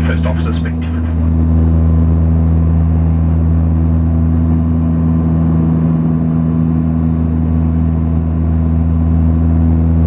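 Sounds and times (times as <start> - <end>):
turboprop engines droning in cabin: 0.0 - 10.0.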